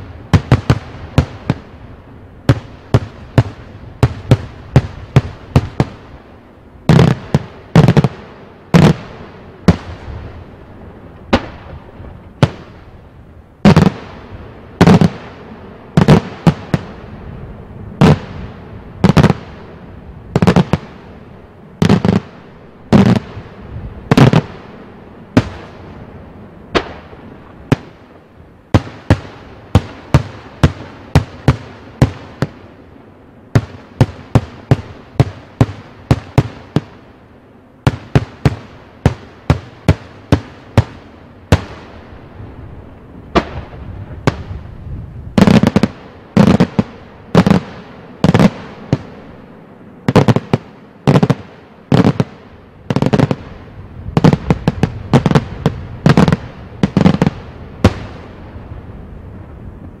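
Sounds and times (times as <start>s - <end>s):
fireworks bangs: 0.0s - 6.2s, 6.8s - 10.4s, 11.2s - 12.9s, 13.6s - 17.2s, 18.0s - 21.1s, 21.7s - 26.1s, 26.7s - 32.8s, 33.5s - 37.1s, 37.8s - 49.4s, 50.0s - 58.8s.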